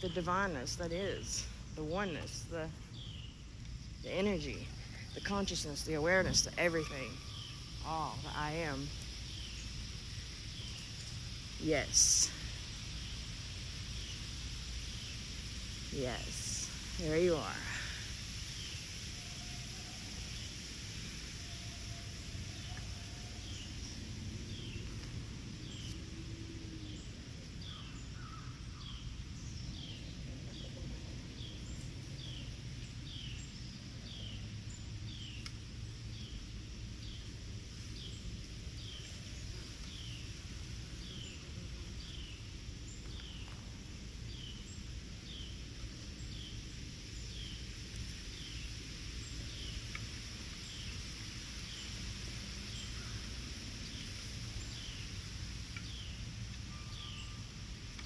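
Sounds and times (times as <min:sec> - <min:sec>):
faint high hiss: 0:00.0 - 0:58.0
low steady rumble: 0:00.0 - 0:58.0.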